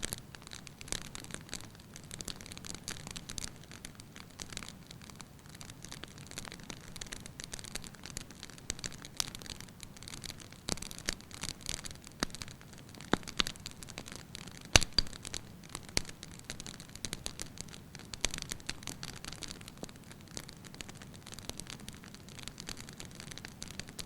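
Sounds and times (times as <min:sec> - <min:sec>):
soft hiss: 0:00.0 - 0:24.0
wood fire crackling: 0:00.0 - 0:24.0.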